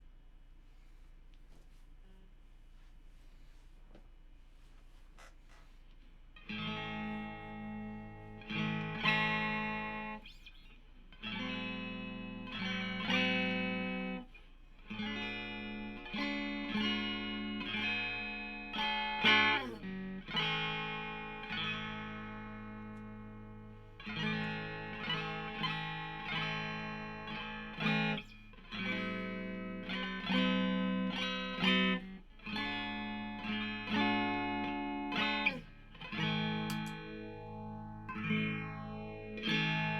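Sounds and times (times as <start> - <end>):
electric guitar playing: 6.3 - 39.9.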